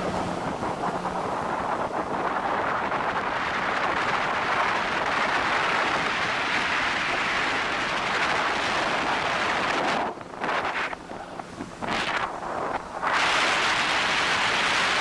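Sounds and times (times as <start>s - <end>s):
jet ski engine: 0.0s - 15.0s
wind buffeting microphone: 0.0s - 15.0s.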